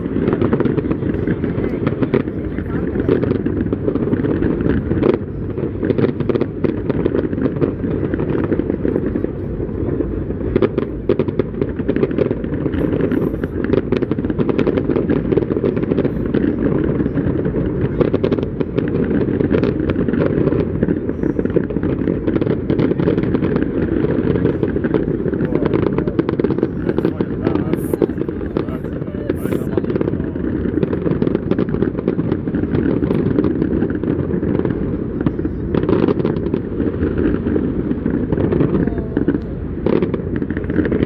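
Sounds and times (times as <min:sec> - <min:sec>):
fireworks bangs and crackles: 0:00.0 - 0:41.0
low rumble: 0:00.0 - 0:41.0.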